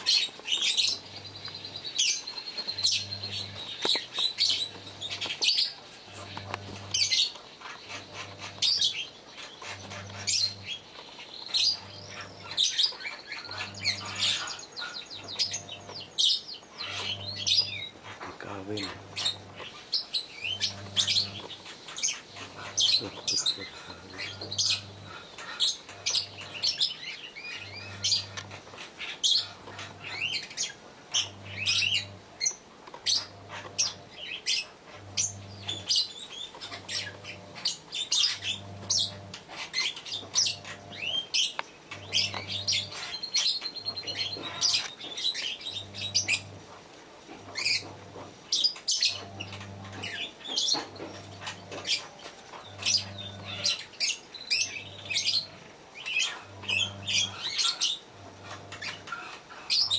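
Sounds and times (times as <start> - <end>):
lovebirds chirping and squeaking: 0.0 - 59.9.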